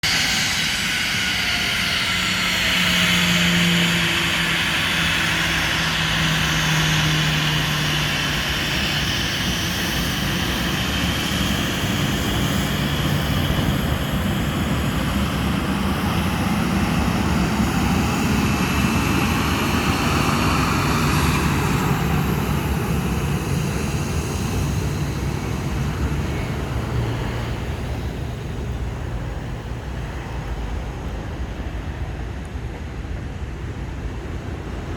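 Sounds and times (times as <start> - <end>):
jet engines roaring and whining: 0.0 - 34.9.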